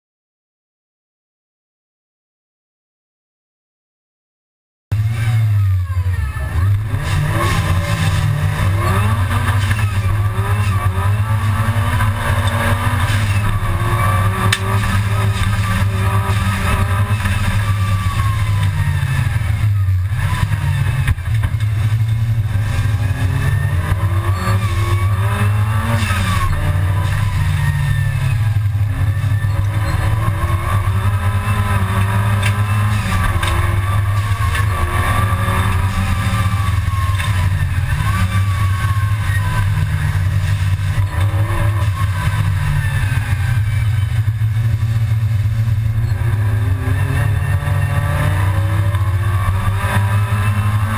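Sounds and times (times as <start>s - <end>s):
race car engine revving: 4.9s - 50.9s.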